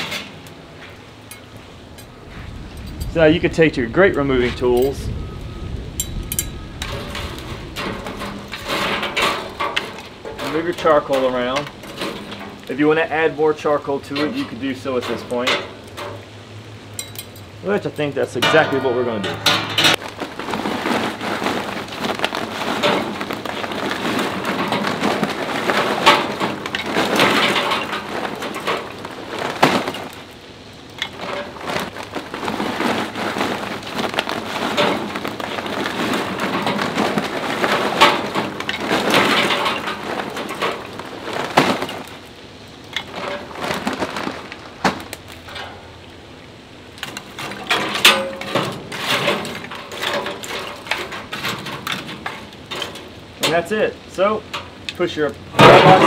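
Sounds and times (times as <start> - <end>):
charcoal pouring into metal basket: 2.5 - 16.2, 17.6 - 46.0, 46.9 - 56.0.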